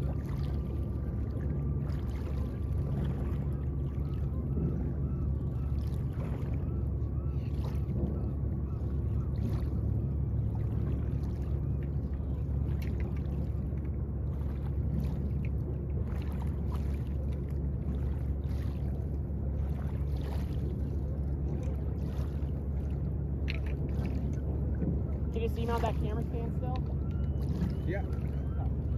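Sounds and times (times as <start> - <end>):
low engine drone: 0.0 - 28.9.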